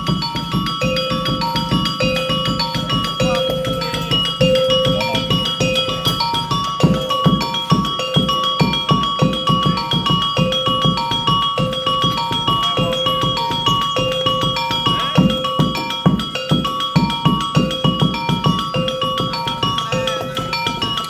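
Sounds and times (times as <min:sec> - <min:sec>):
metallophone ringing pattern: 0:00.0 - 0:21.0.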